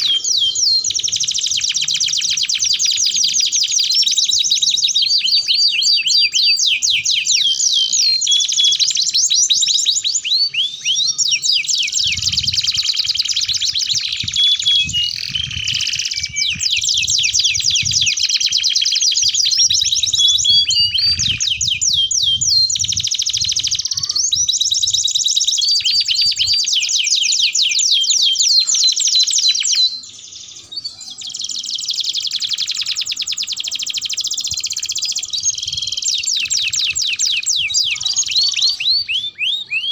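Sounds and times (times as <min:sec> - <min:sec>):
canaries singing trills and chirps: 0:00.0 - 0:39.9.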